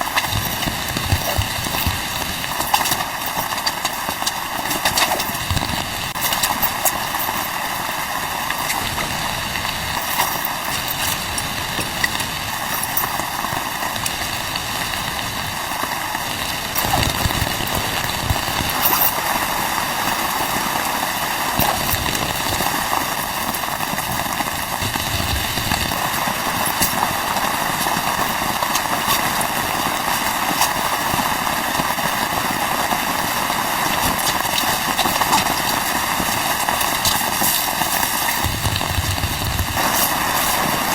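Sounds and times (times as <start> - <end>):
rain on a tent: 0.0 - 40.9.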